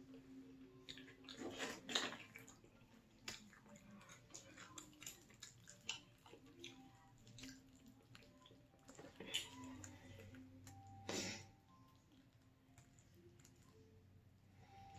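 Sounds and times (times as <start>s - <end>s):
chewing and wet mouth smacks: 0.8s - 11.0s, 11.8s - 13.8s.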